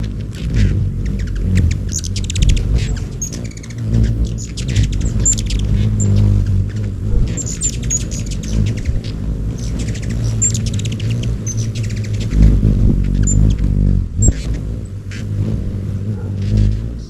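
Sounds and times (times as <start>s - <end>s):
hum of wings: 0.0s - 17.0s
hummingbirds chittering: 0.0s - 17.0s.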